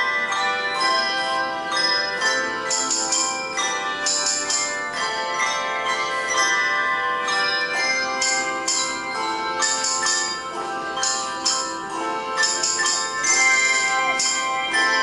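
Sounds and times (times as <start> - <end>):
bright jingling: 0.0 - 15.0
handbells ringing: 0.0 - 15.0.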